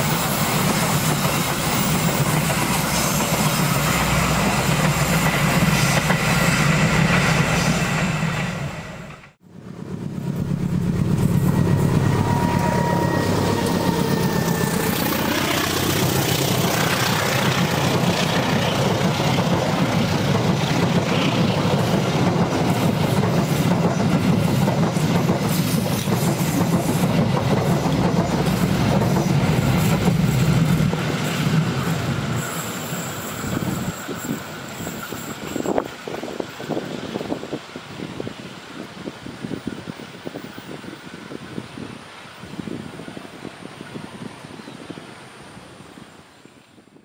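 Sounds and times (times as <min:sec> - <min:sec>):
train wheels rumbling on rails: 0:00.0 - 0:46.2.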